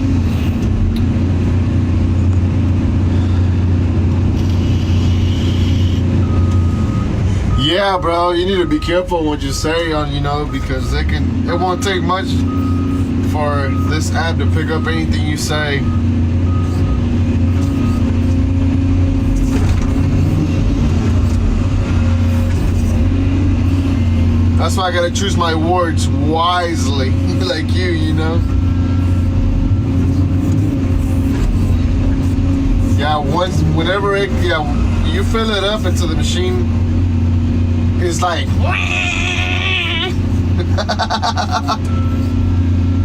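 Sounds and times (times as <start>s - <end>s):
excavator diesel engine hum: 0.0s - 43.0s.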